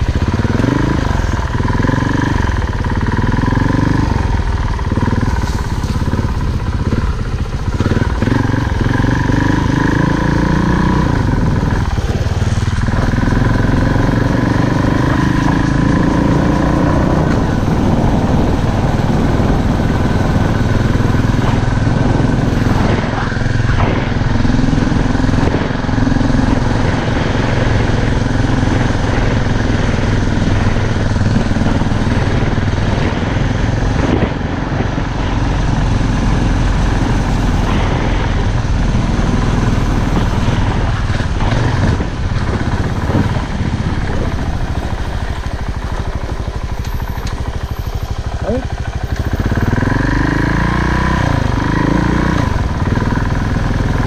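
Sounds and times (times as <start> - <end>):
off-road motorcycle revving: 0.0 - 54.0.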